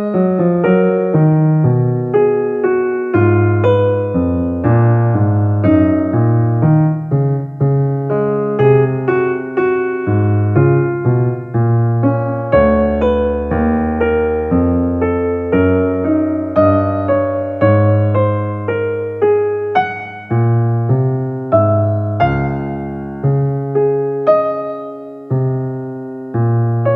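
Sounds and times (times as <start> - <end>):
slow piano melody: 0.0 - 26.9.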